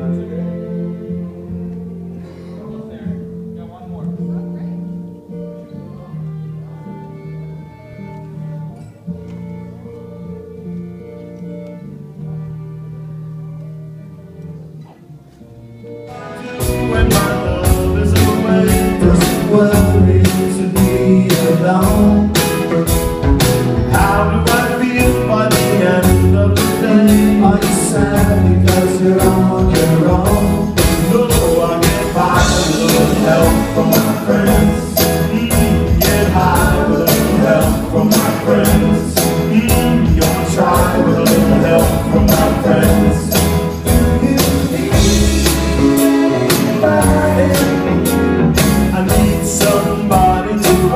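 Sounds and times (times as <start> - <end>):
band playing a song: 0.0 - 50.9.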